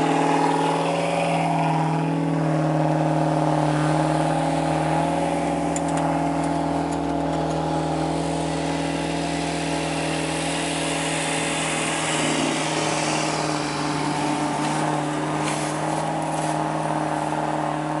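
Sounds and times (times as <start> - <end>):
car driving through deep snow: 0.0 - 18.0
engine idling: 0.0 - 18.0.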